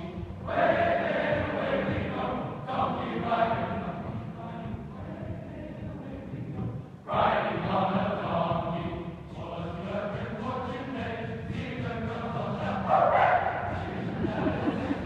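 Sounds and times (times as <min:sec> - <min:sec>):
massed choir singing: 0:00.0 - 0:15.0.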